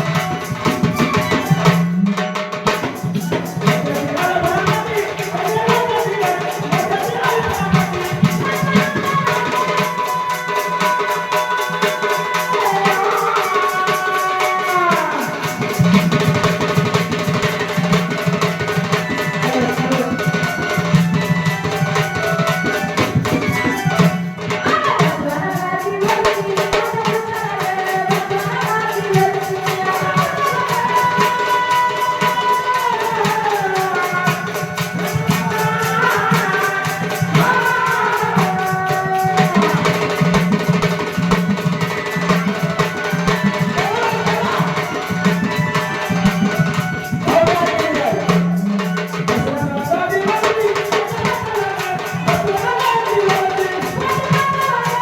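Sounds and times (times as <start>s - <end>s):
tabla and hand percussion: 0.0s - 55.0s
woman singing: 0.0s - 55.0s.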